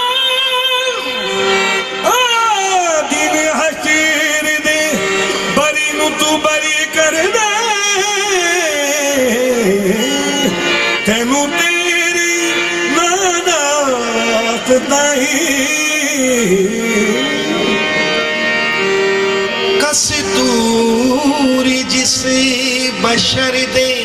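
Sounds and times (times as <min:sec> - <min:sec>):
instrumental accompaniment: 0:00.0 - 0:24.0.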